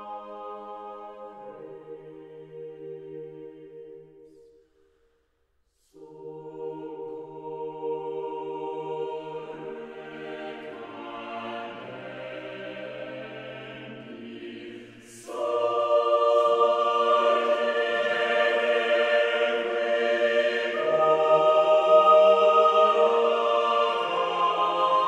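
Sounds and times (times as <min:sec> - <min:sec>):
choir holding sustained chords: 0:00.0 - 0:04.6, 0:05.9 - 0:25.0.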